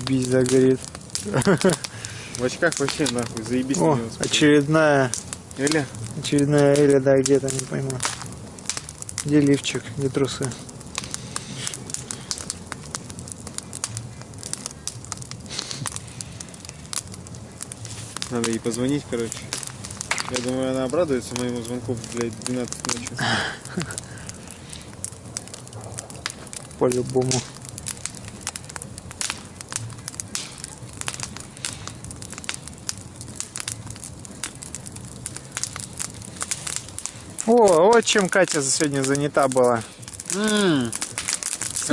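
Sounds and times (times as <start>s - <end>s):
bonfire crackling: 0.0s - 41.9s.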